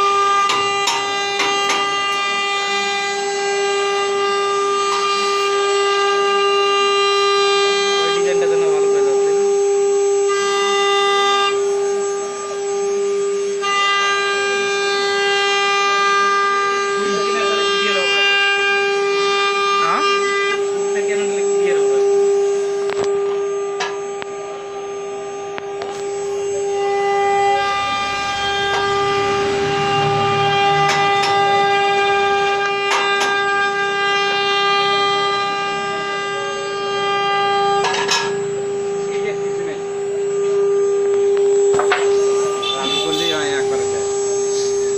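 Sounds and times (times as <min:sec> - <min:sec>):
cnc router spindle whine: 0:00.0 - 0:44.9.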